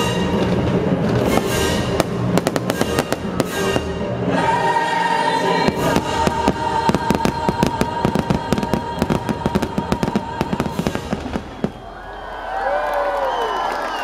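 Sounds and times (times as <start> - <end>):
fireworks bursts: 0.0 - 4.6, 5.5 - 12.2
show music holding a chord: 0.0 - 11.4.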